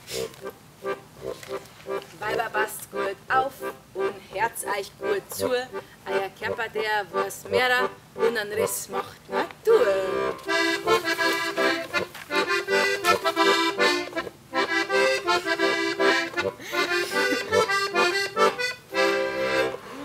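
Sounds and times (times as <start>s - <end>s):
button accordion playing folk music: 0.1s - 20.0s.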